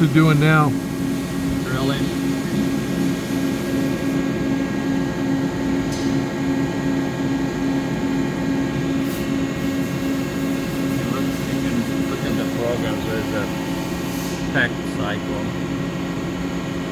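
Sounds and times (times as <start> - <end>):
lathe drilling hum: 0.0 - 16.9.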